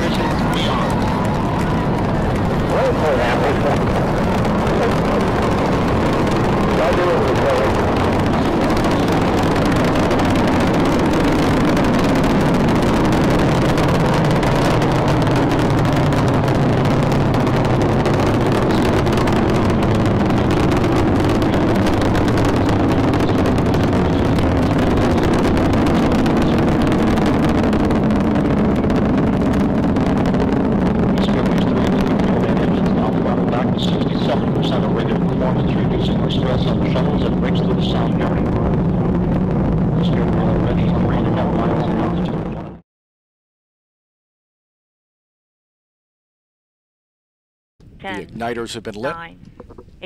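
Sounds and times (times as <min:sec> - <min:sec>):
rocket engines roaring: 0:00.0 - 0:42.8, 0:47.8 - 0:50.0.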